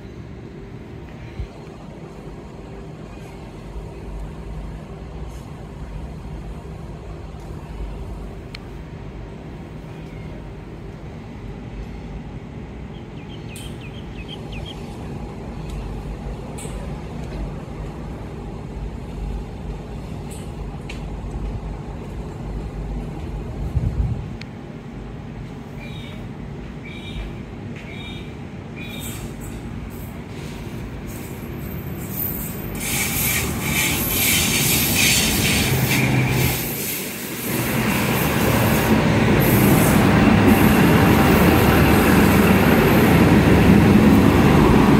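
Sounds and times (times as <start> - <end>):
diesel railcar engine rumble: 0.0 - 44.9.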